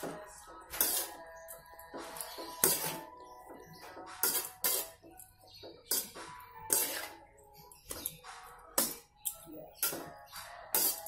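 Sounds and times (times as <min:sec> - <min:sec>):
metal spatula scraping a wok: 0:00.0 - 0:08.2, 0:09.7 - 0:11.0
background music with held tones: 0:00.0 - 0:11.0.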